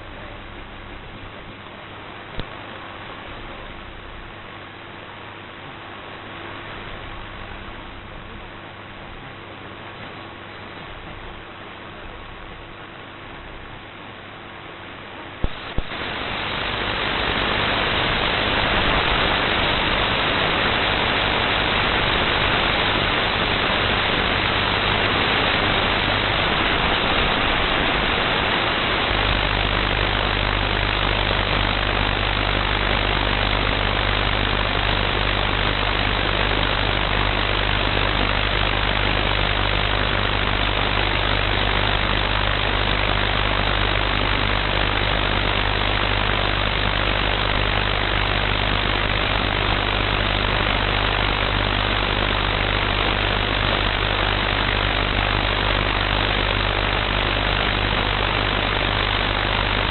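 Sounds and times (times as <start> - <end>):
low hum: 0.0 - 59.9
radio interference hiss: 0.0 - 59.9.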